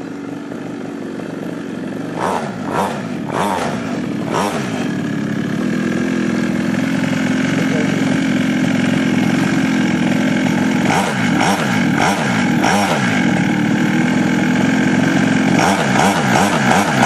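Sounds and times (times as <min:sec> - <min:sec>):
two-stroke minibike engine revving: 0:00.0 - 0:17.0.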